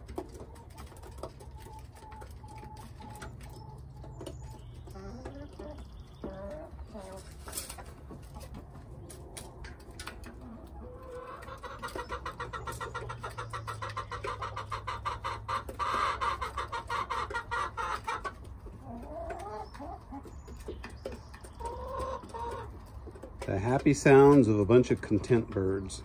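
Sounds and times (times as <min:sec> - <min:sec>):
hens clucking: 0:00.0 - 0:26.0.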